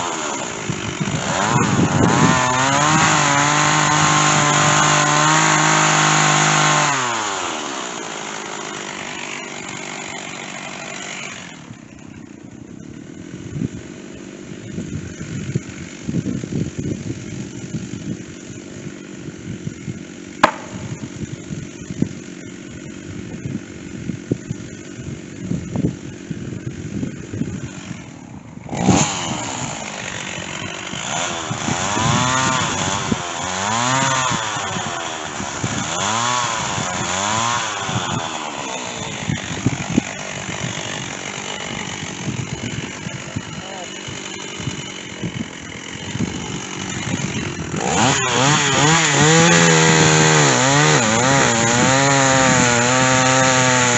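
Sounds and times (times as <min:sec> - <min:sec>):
chainsaw running: 0:00.0 - 0:53.9.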